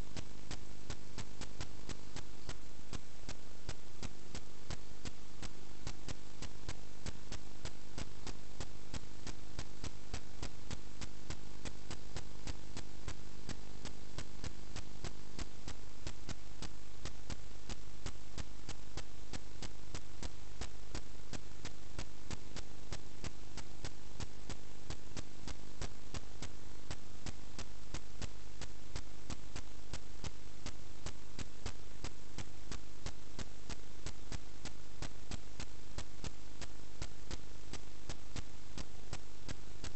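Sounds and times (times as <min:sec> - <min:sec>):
electrical hum and hiss: 0:00.0 - 0:39.9.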